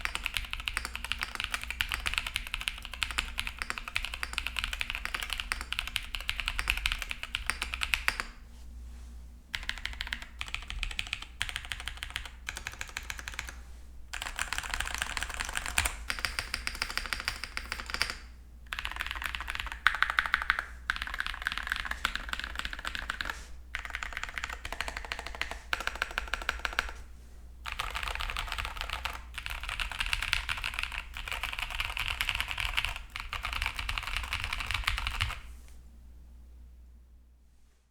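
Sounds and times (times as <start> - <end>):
mechanical keyboard typing: 0.0 - 8.3, 9.6 - 27.0, 27.6 - 35.4.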